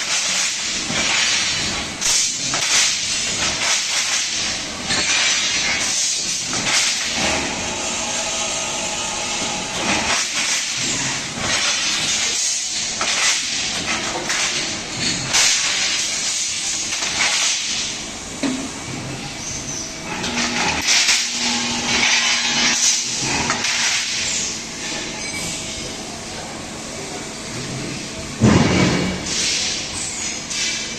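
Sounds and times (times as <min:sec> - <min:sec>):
machine running with steady hiss: 0:00.0 - 0:30.9.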